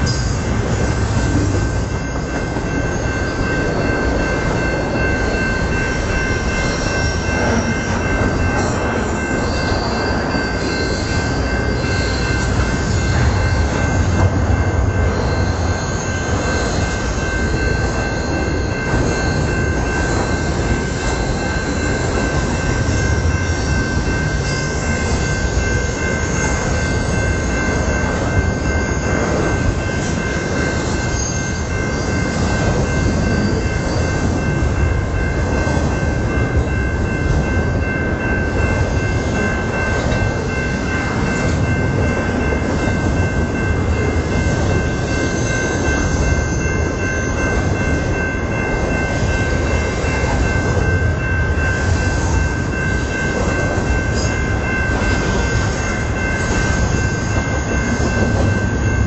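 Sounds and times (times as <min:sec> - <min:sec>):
train wheels rumbling over rails: 0:00.0 - 0:59.0.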